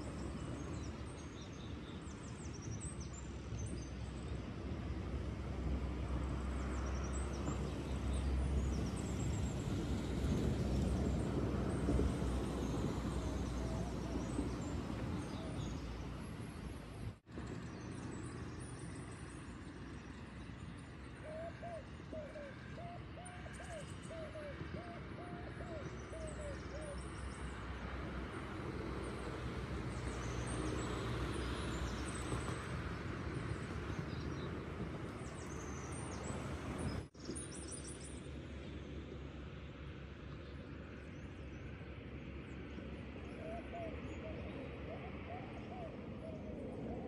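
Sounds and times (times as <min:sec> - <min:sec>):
distant traffic: 0:00.0 - 0:47.0
wind: 0:00.0 - 0:47.0.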